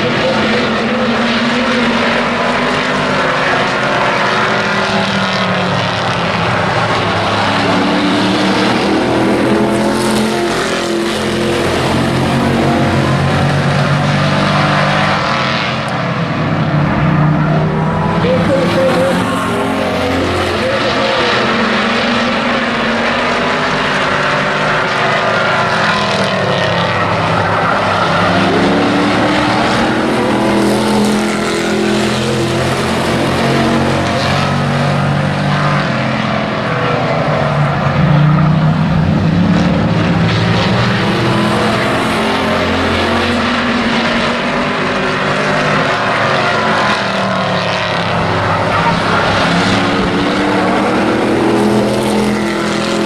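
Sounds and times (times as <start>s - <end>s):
model race truck engines: 0.0s - 53.0s.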